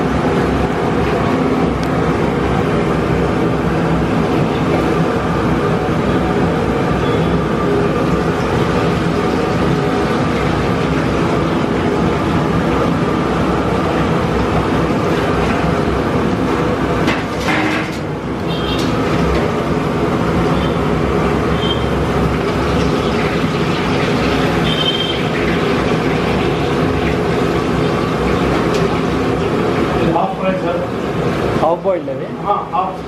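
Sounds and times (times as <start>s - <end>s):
batter sizzling in hot oil: 0.0s - 17.9s, 18.5s - 31.6s.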